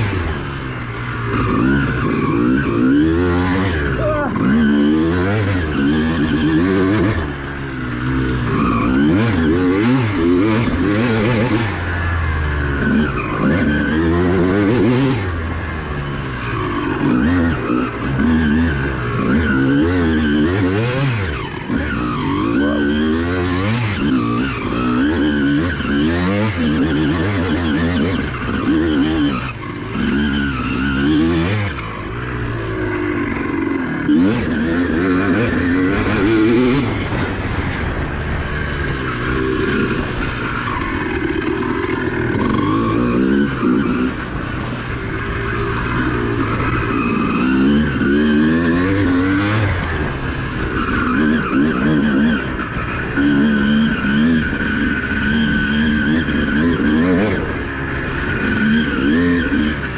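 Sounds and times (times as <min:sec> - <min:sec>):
two-stroke dirt bike engine revving: 0:00.0 - 0:59.9.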